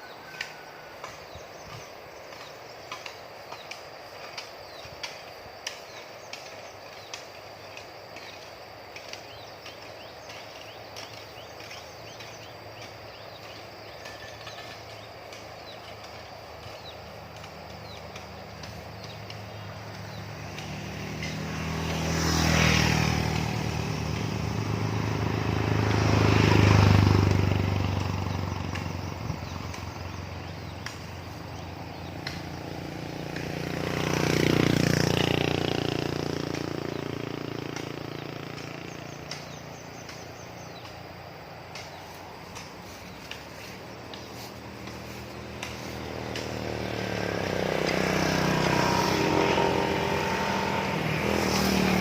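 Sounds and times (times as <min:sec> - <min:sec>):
low engine hum: 0:00.0 - 0:52.0
vehicles passing by: 0:00.0 - 0:52.0.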